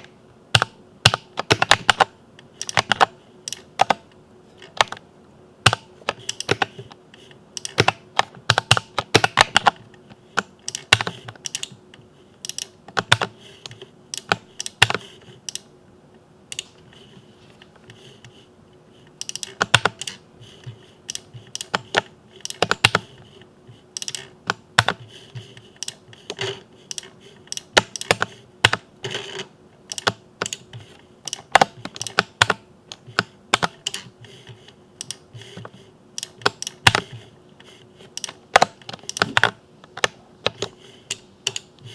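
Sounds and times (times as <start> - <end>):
mechanical keyboard typing: 0.0 - 4.1, 4.7 - 5.0, 5.6 - 6.9, 7.6 - 9.8, 10.4 - 15.7, 19.2 - 37.3, 38.1 - 41.9.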